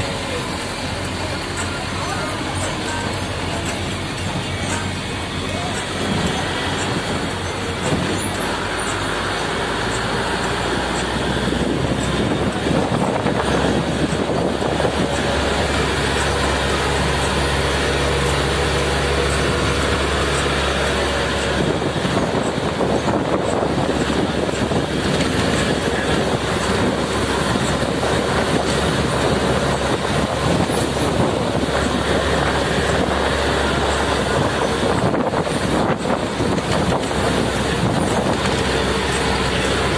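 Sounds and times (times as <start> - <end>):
engine drone: 0.0 - 39.9
road and wind noise: 0.0 - 39.9.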